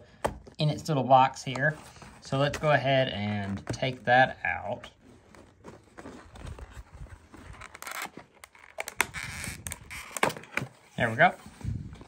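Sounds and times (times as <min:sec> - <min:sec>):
cardboard scraping and rubbing: 0:01.5 - 0:12.0.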